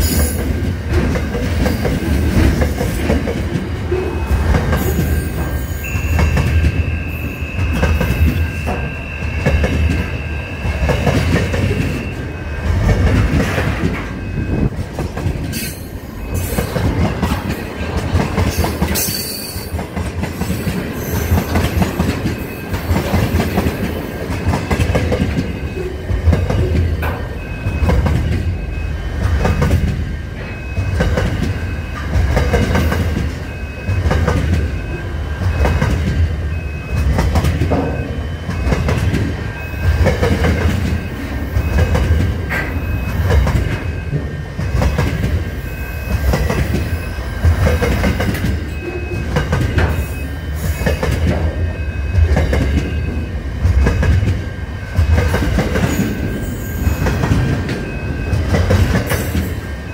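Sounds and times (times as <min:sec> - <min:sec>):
train wheels clattering on rails: 0:00.0 - 0:59.9
high beeping: 0:03.9 - 0:14.8, 0:15.5 - 0:19.8, 0:20.4 - 0:59.9.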